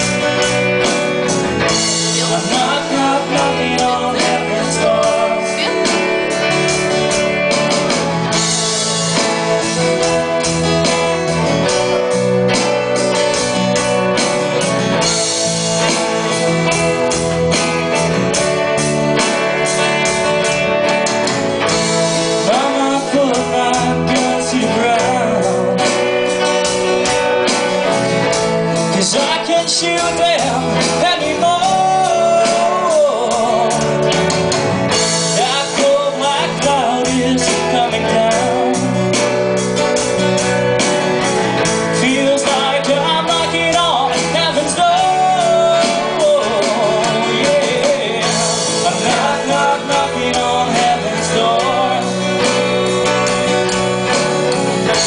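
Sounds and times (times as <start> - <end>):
man singing lead: 0.0 - 21.0, 21.6 - 39.7, 41.6 - 55.0
drum kit beat: 0.0 - 55.0
second guitar: 0.0 - 55.0
strummed acoustic guitar: 0.0 - 55.0.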